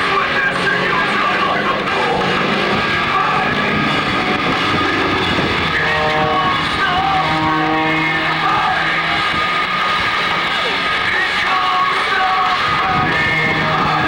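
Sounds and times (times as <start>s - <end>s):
propeller plane engine: 0.0s - 14.0s
rock music over loudspeakers: 0.0s - 14.0s.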